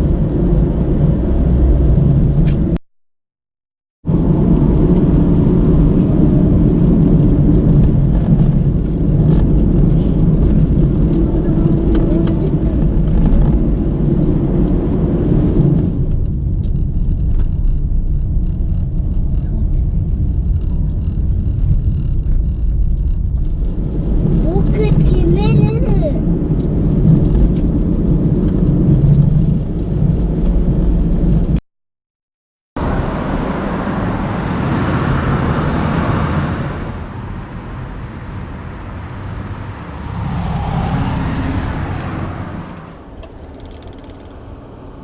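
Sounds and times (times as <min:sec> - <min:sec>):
car road and engine rumble: 0:00.0 - 0:02.8, 0:04.1 - 0:31.6, 0:32.8 - 0:45.0.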